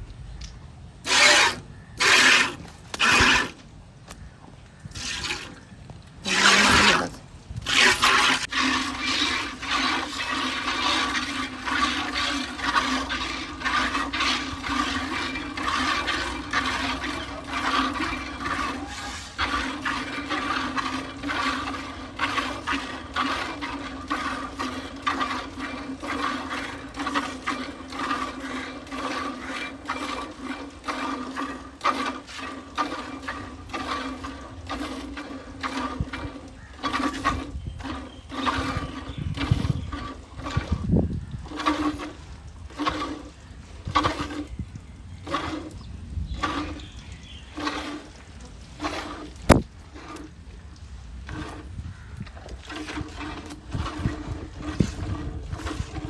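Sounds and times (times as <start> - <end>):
milk squirting into steel pail: 1.0 - 3.6, 4.9 - 56.0
milk splashes: 4.9 - 56.0.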